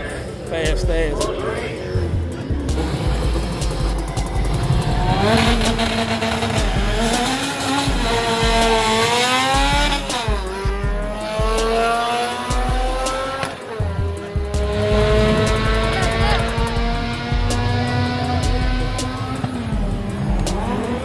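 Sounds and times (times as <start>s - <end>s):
drag racing engines at full throttle: 0.0s - 21.0s.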